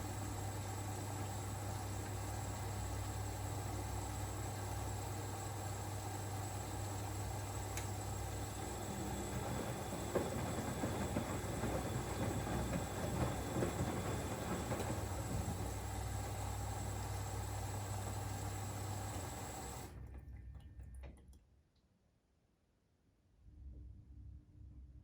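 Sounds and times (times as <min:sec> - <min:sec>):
water rushing into washing machine: 0:00.0 - 0:21.2
low mains hum: 0:00.0 - 0:25.0.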